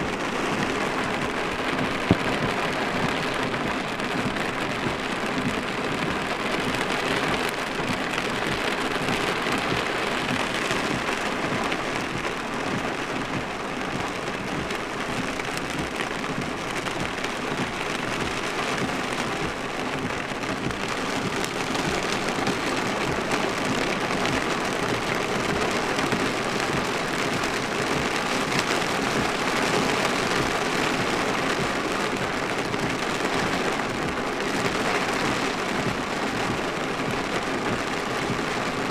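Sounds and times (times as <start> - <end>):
rain drumming on vehicle roof: 0.0 - 38.9.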